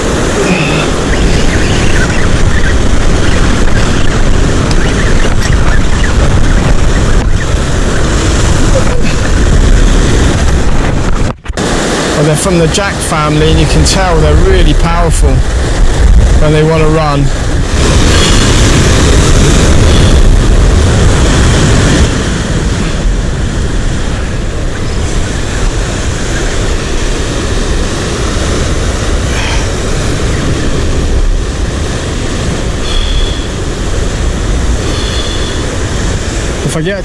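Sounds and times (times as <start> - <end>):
breaking surf: 0.0 - 37.0
wind rumble: 0.0 - 37.0.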